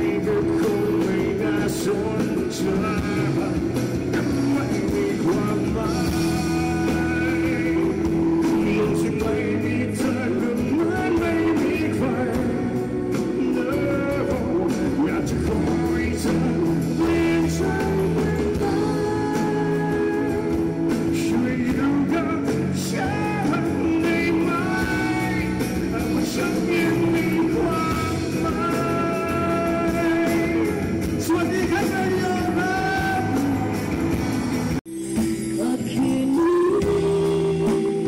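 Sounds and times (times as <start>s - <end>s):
man singing: 0.0s - 34.2s, 35.2s - 38.0s
drums: 0.0s - 38.0s
electric and acoustic guitars: 0.0s - 38.0s.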